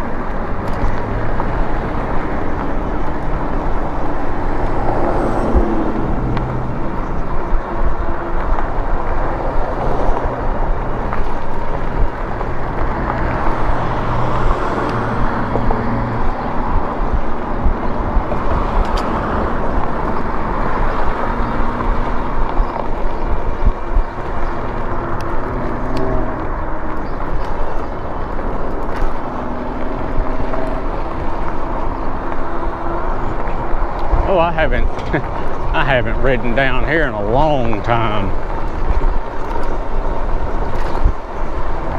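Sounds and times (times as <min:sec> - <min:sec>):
passing road traffic: 0:00.0 - 0:41.9
wind rushing over microphone: 0:00.0 - 0:41.9.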